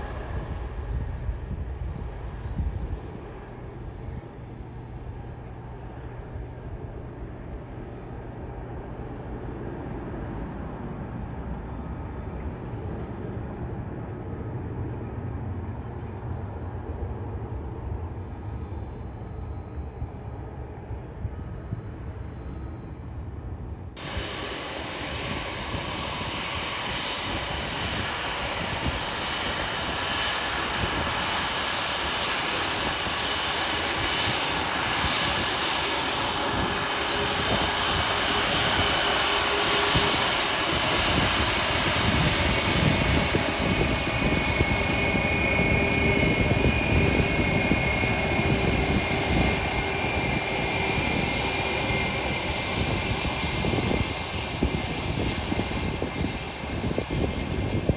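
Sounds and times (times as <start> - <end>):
airliner engines rushing: 0.0 - 57.9
high steady whine: 0.0 - 57.9.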